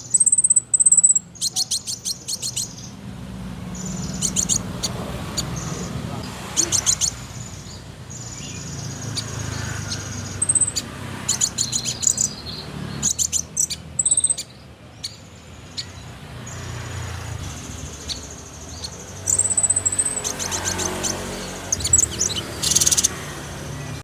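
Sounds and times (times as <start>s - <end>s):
songbirds trilling and chirping: 0.0s - 24.0s.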